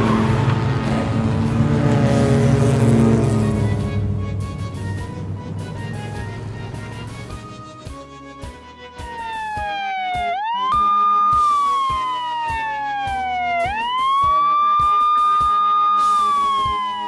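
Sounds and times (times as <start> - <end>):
police siren wailing: 0.0 - 17.0
background music with steady beat: 3.1 - 17.0.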